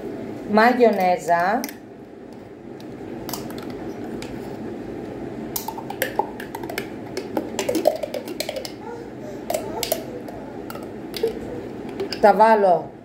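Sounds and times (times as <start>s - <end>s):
range hood fan whirring: 0.0s - 13.0s.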